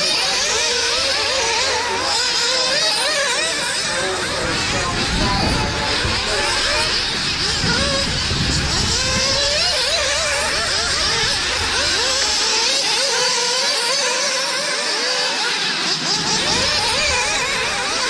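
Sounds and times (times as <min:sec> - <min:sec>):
small engines revving and whining: 0:00.0 - 0:18.0.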